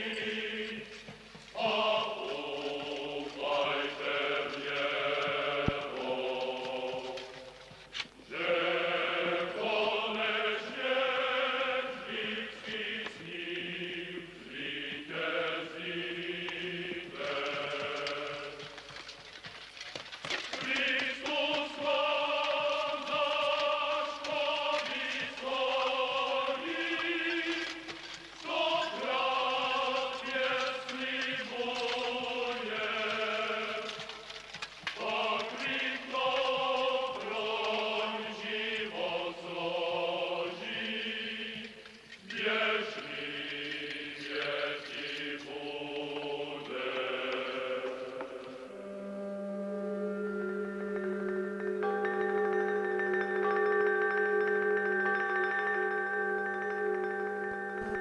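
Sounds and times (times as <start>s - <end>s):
choir singing slow chant: 0.0s - 19.0s, 20.6s - 49.0s.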